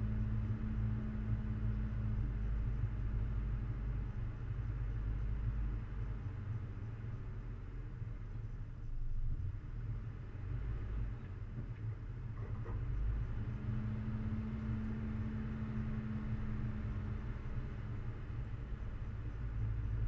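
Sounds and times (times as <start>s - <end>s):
steady droning tone: 0.0s - 20.0s
vehicle engine rumble: 0.0s - 20.0s.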